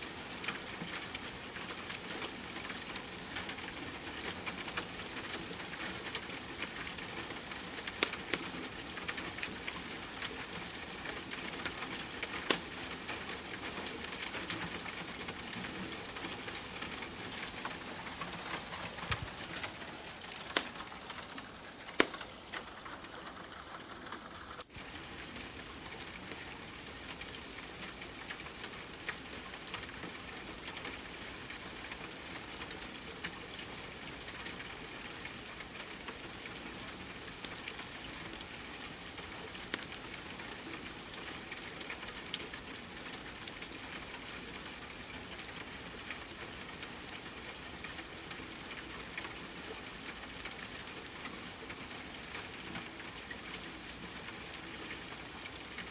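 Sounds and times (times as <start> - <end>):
steady rain: 0.0 - 55.9
wood fire crackling: 0.1 - 37.8, 45.3 - 55.9.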